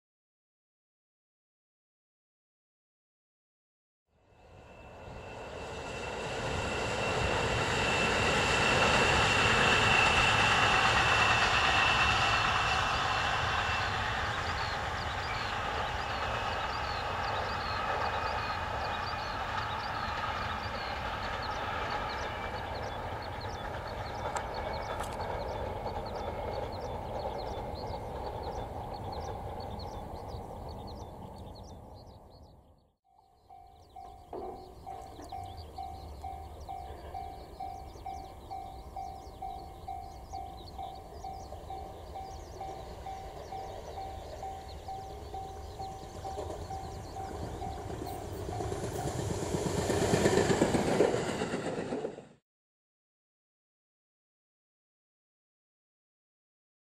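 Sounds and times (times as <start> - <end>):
electric train passing: 4.2 - 52.4.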